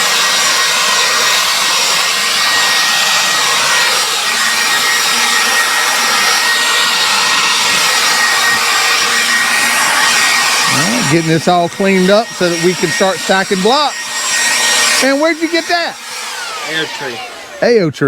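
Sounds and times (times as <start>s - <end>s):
cordless leaf blower running: 0.0s - 17.9s.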